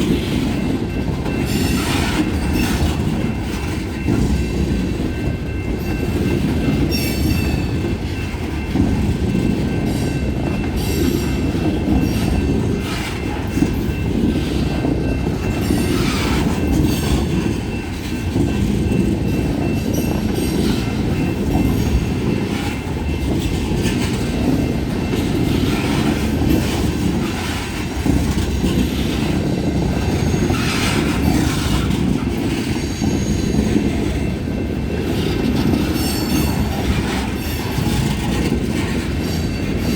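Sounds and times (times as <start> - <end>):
train rumble: 0.0 - 39.9
wheels clacking over rail joints: 0.0 - 39.9.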